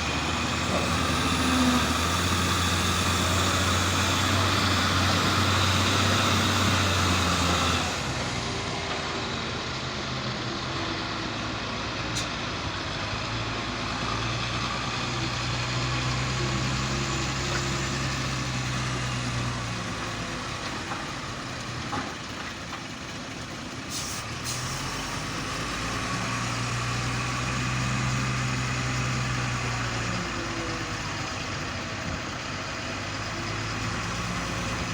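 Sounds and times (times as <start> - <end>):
heavy diesel engine drone: 0.0 - 34.9.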